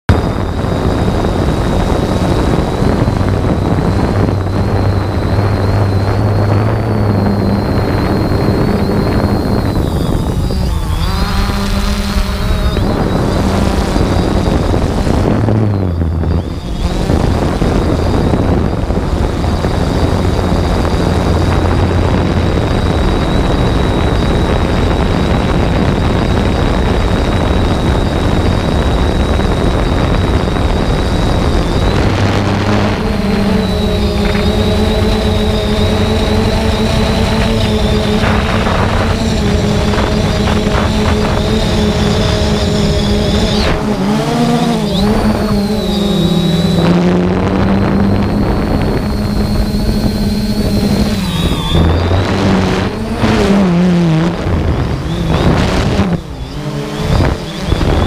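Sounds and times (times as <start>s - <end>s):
drone motors buzzing: 0.0s - 58.0s.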